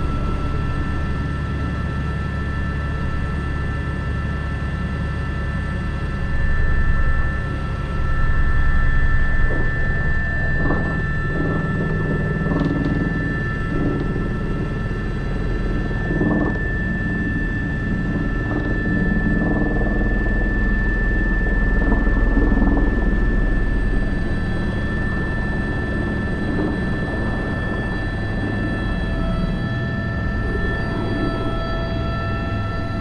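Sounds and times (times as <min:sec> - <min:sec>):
helicopter rotor drone: 0:00.0 - 0:33.0
helicopter turbine whine: 0:00.0 - 0:33.0.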